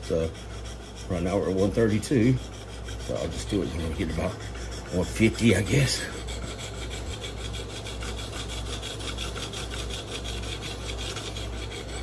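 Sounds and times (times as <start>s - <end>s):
sharpening stone scrubbing knife edge: 0.0s - 12.0s.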